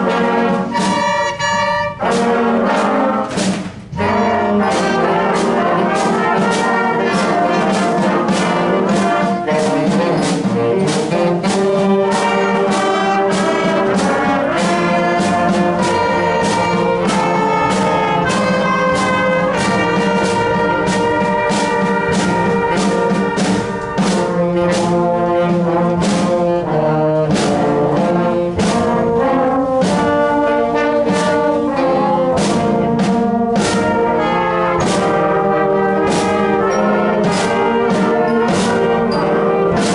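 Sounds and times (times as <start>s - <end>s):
concert band brass: 0.0s - 39.9s
drums keeping a beat: 0.0s - 39.9s.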